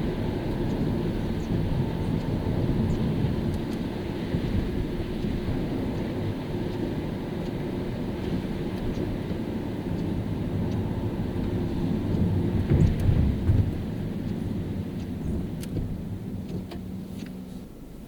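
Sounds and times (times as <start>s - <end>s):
car driving on wet road: 0.0s - 18.0s.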